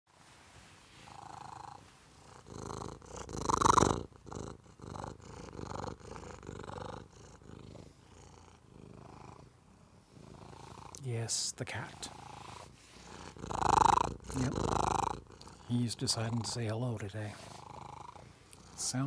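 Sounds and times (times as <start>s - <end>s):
cat purring loudly: 1.0s - 11.0s, 11.9s - 19.0s.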